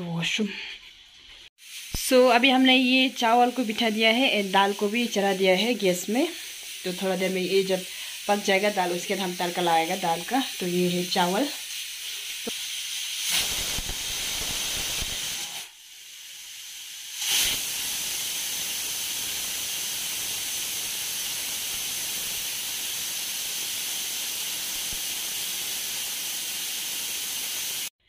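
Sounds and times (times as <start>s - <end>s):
pressure cooker hissing steam: 1.6s - 27.9s.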